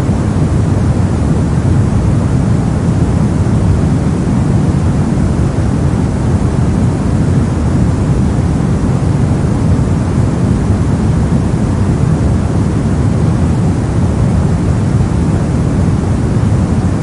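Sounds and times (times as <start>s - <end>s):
deep rushing brown noise: 0.0s - 17.0s.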